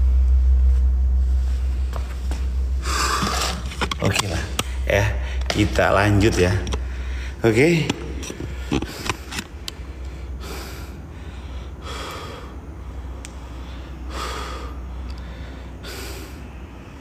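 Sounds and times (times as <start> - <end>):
low hum: 0.0 - 17.0
man breathing heavily: 1.3 - 5.6, 6.8 - 17.0.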